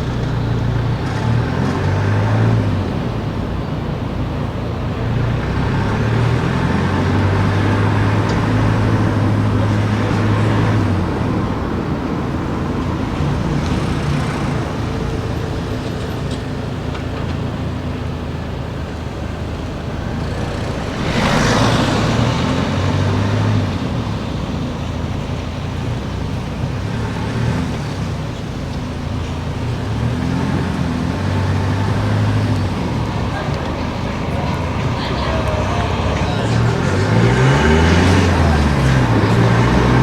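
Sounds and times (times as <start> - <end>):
car engine hum: 0.0 - 40.0
road noise: 0.0 - 40.0.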